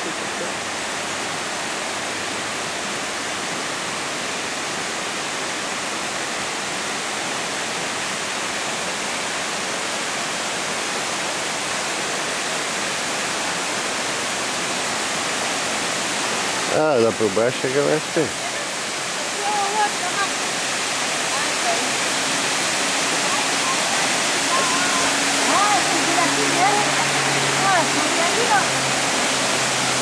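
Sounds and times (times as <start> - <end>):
waterfall roar: 0.0 - 30.0.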